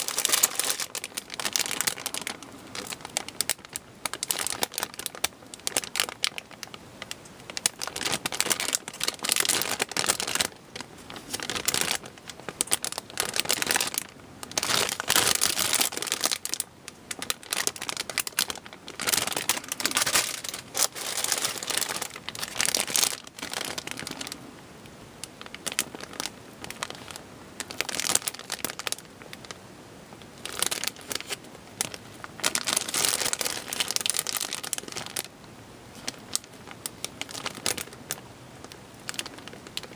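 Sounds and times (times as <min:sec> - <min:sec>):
plastic bags crinkling: 0:00.0 - 0:24.4, 0:25.2 - 0:35.3, 0:35.9 - 0:39.9.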